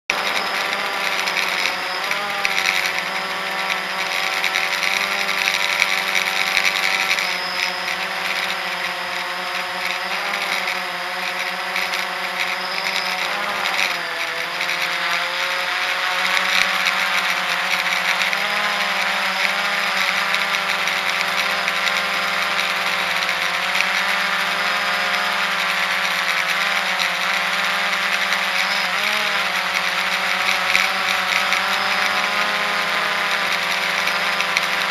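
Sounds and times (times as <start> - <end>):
quadcopter motors whining: 0.0 - 34.9.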